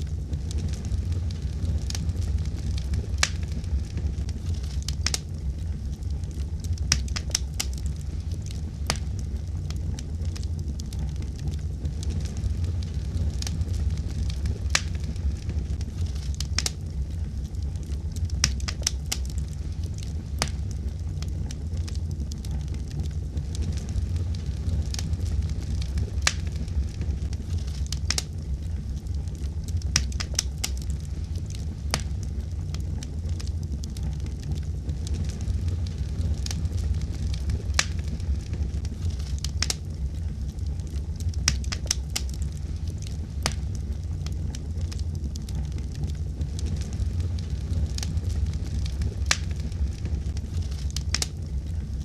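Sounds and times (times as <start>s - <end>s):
fire crackling and popping: 0.0s - 52.0s
low rumble of flames: 0.0s - 52.0s.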